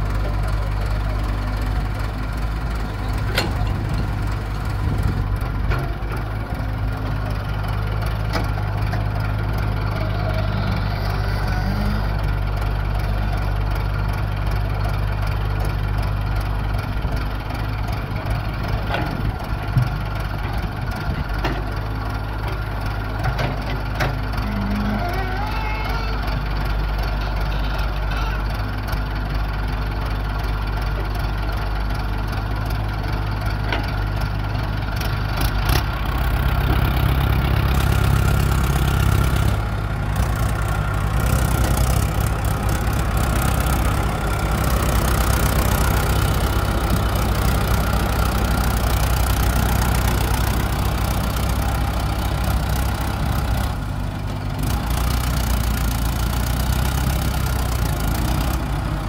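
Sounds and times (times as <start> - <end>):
excavator engine running: 0.0 - 59.0
tractor diesel engine clattering: 0.0 - 59.0.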